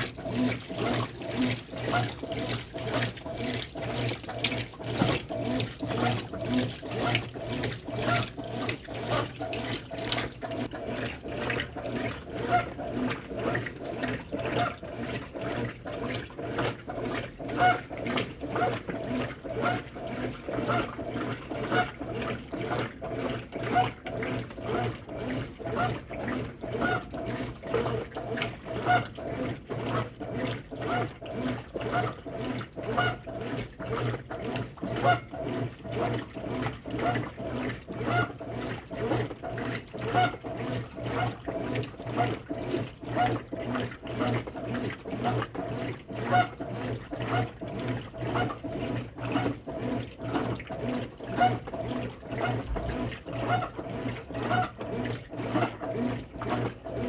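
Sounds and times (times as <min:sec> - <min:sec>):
motor hum: 0:00.0 - 0:57.0
water sloshing in washing machine: 0:00.0 - 0:57.0.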